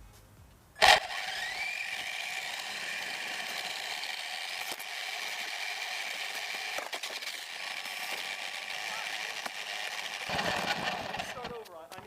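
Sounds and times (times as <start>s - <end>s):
electric motor and gears whining: 0.8s - 11.7s.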